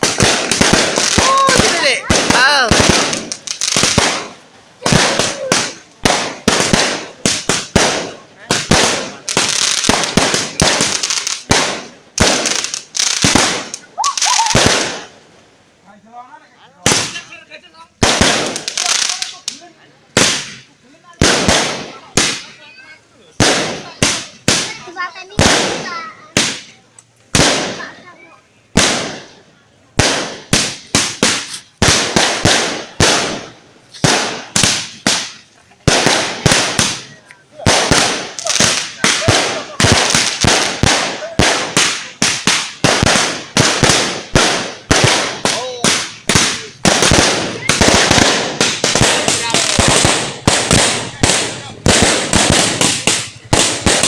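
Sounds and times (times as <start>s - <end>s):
crackling hiss: 0.0s - 54.0s
fireworks bangs: 0.0s - 54.0s.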